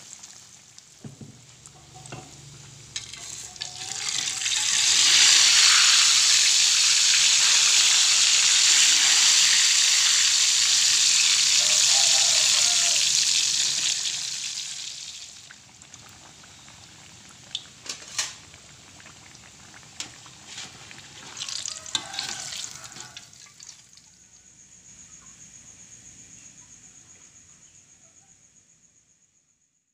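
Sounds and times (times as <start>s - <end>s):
food sizzling in hot oil: 0.0s - 24.3s.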